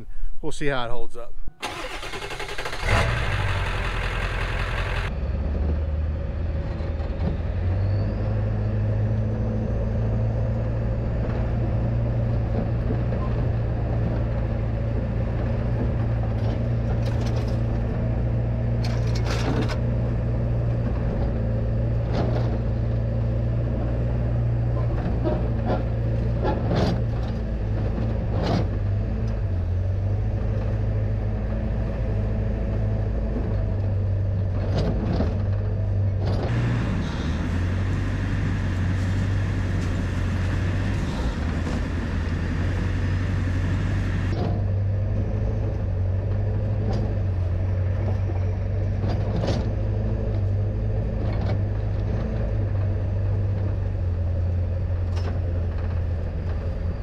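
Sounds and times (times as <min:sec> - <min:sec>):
truck engine low drone: 0:00.0 - 0:57.0
knocks and creaks over bumps: 0:11.0 - 0:57.0.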